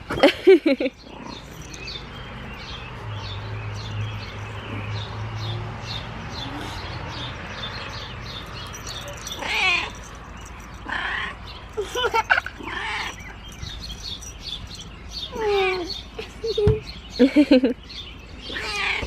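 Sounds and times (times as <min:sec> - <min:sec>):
small bird chirping: 0:01.0 - 0:18.7.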